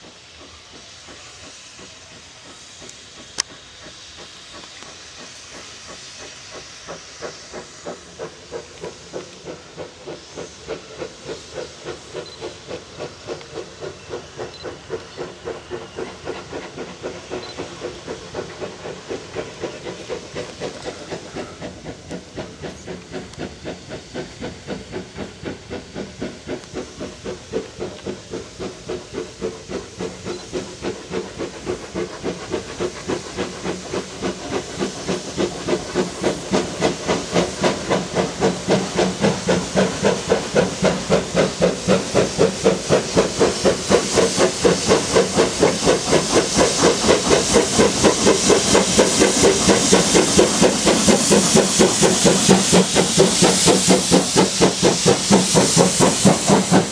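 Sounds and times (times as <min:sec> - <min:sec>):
steam hissing: 0:00.0 - 0:56.9
steam locomotive chuffing: 0:00.0 - 0:56.9.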